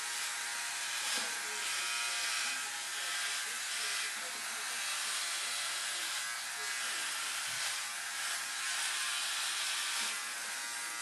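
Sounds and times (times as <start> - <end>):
electric shaver buzzing: 0.0 - 11.0.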